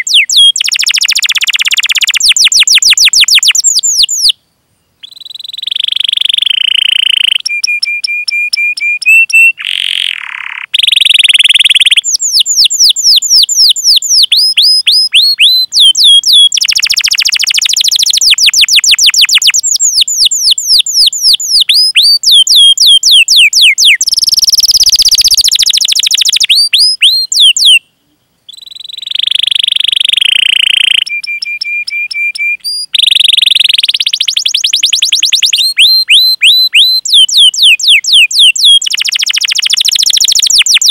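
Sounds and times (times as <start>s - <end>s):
canary singing: 0.0s - 4.4s, 5.0s - 40.9s.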